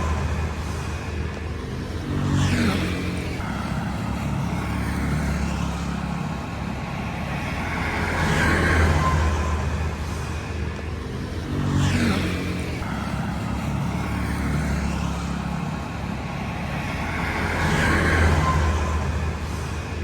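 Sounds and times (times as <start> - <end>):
traffic hum: 0.0 - 20.0
vehicles passing close: 0.0 - 20.0.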